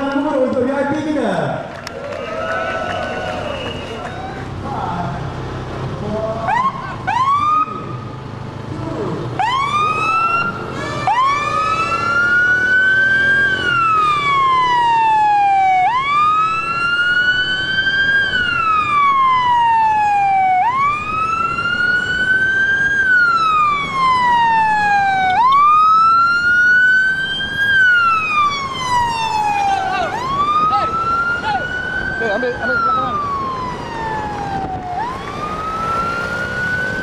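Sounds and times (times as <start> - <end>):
police siren wailing: 0.0 - 1.0, 1.8 - 4.6, 6.3 - 8.2, 9.4 - 37.0.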